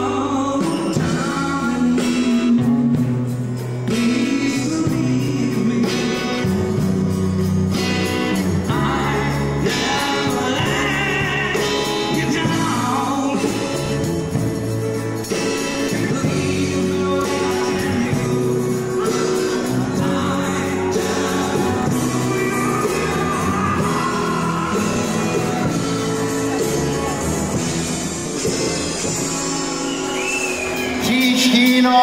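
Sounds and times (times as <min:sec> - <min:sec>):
bass long low notes: 0:00.0 - 0:31.1
live band playing: 0:00.0 - 0:32.0.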